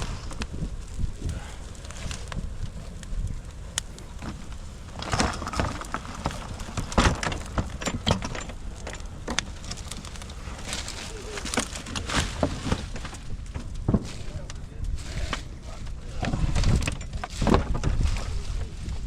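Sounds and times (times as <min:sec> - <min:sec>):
bonfire crackling and popping: 0:00.0 - 0:19.0
low fire rumble: 0:00.0 - 0:19.0.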